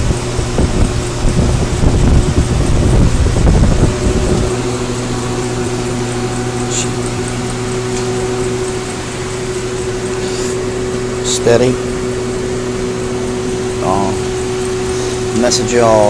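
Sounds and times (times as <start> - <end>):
lathe running: 0.0 - 16.0.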